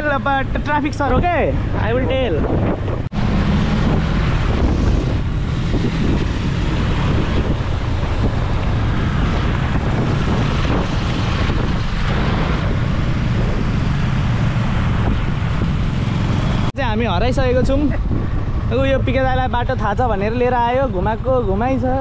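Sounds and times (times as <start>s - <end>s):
motorcycle engine and road noise: 0.0s - 22.0s
wind rushing over microphone: 0.0s - 22.0s.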